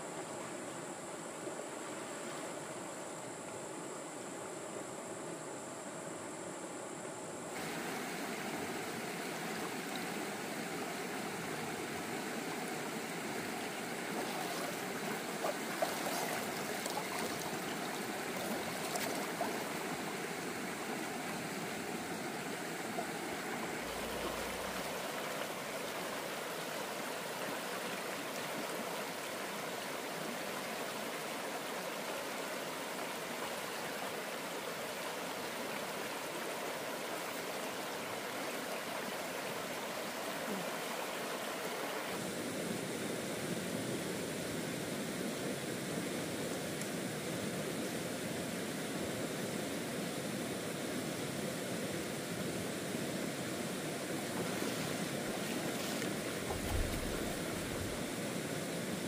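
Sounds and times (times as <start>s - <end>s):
stream flowing over rocks: 7.6s - 59.0s.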